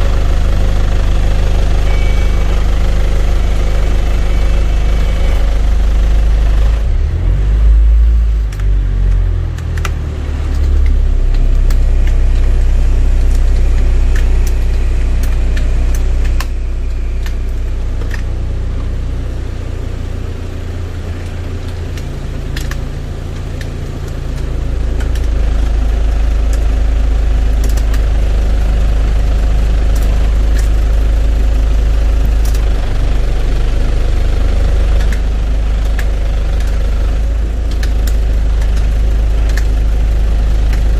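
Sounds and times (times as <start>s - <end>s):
minibus engine idling: 0.0s - 40.9s.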